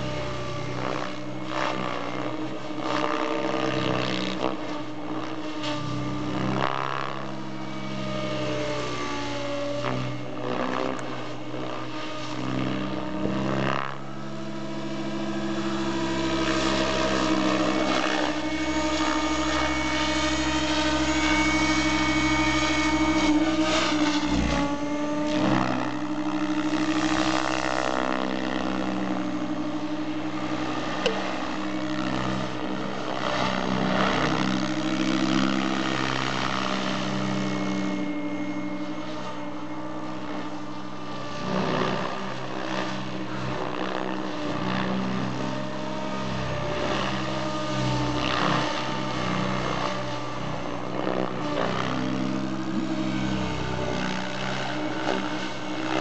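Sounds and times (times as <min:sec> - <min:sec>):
electric motor whine: 0:00.0 - 0:56.0
helicopter rotor blade noise: 0:00.0 - 0:56.0.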